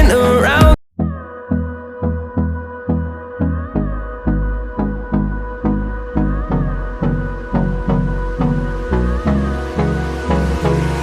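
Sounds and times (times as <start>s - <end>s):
instrumental pop music: 0.0s - 11.0s.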